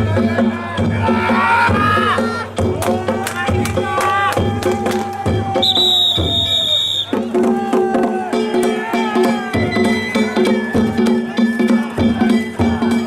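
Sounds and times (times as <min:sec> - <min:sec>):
drum and gong strikes: 0:00.0 - 0:13.0.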